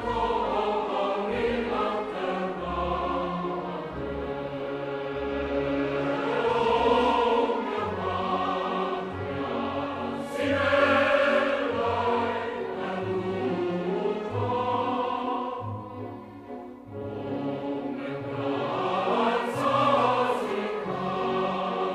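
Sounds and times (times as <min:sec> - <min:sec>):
choir singing chords: 0:00.0 - 0:21.9.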